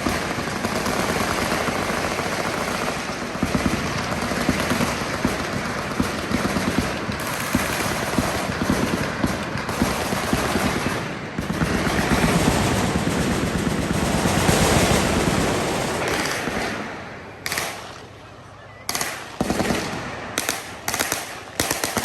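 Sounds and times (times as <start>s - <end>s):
machine guns firing: 0.0s - 22.0s.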